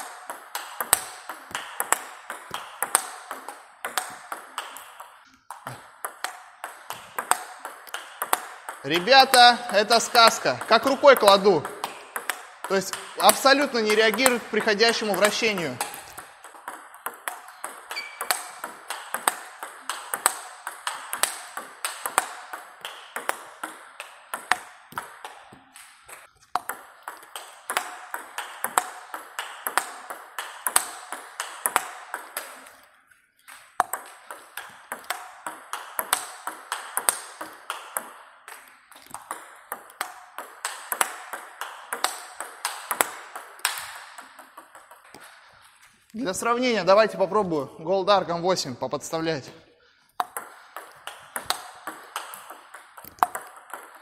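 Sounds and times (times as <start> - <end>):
ping pong ball bouncing on table: 0.0 - 32.9, 33.5 - 45.3, 50.2 - 54.0
ping pong ball hitting paddles: 0.0 - 47.3, 50.1 - 54.0.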